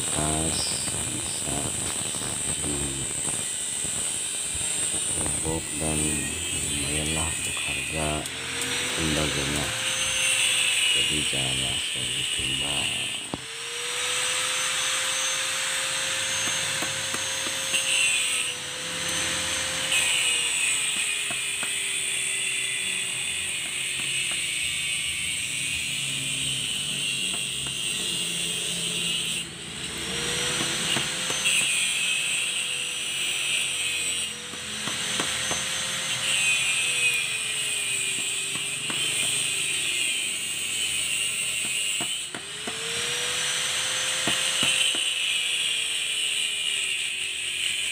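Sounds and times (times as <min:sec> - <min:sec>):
mechanical whirr with whine: 0:00.0 - 0:47.9.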